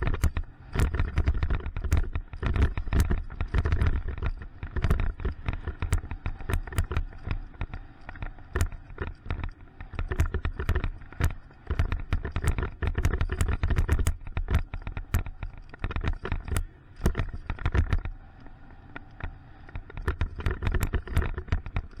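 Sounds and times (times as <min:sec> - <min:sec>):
bike clicking and rattling: 0:00.0 - 0:22.0.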